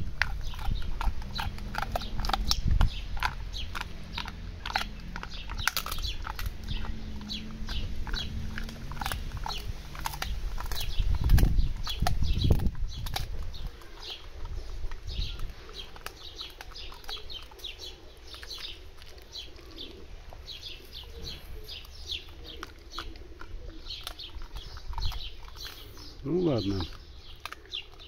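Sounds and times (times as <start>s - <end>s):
low rumbles: 0.0s - 27.5s
dog chewing crunchy chew: 0.0s - 28.0s.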